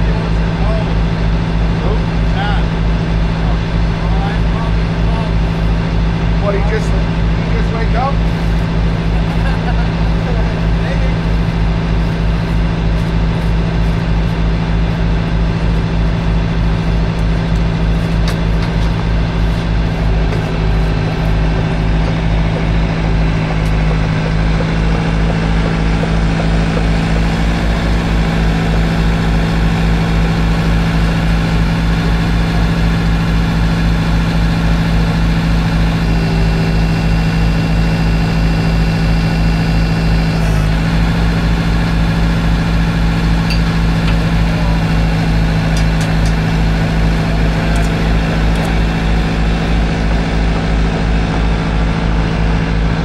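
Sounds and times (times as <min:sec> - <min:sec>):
diesel engine running steadily: 0:00.0 - 0:53.0.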